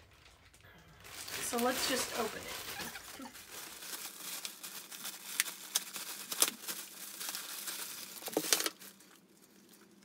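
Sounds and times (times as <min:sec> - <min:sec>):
wrapping crinkling and rustling: 0:00.0 - 0:10.0.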